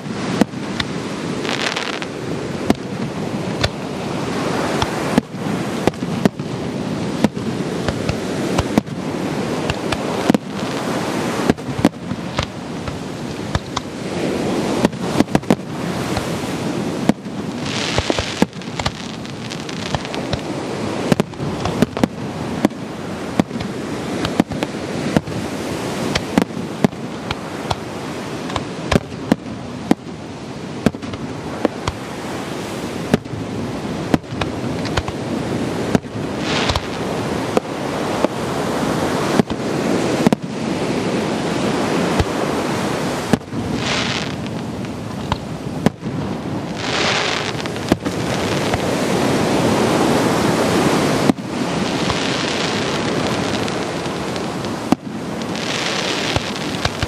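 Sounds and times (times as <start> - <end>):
fireworks bursting with sharp bangs: 0.0 - 57.0
fireworks hissing: 0.2 - 38.5, 42.1 - 49.4, 51.2 - 57.0.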